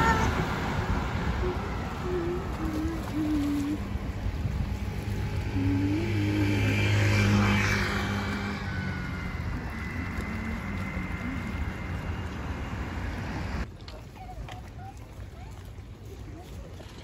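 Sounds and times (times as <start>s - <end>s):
vehicle engine passing by: 0.0s - 13.7s.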